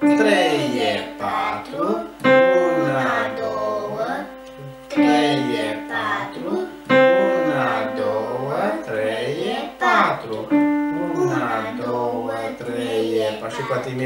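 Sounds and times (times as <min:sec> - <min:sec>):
piano single notes: 0:00.0 - 0:12.7
person speaking: 0:00.0 - 0:14.0.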